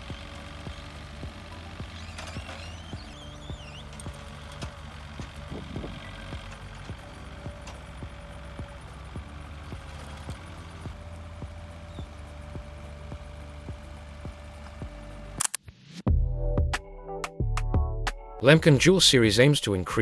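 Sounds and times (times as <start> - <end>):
farm machinery engine rumble: 0.0 - 15.4, 18.4 - 20.0.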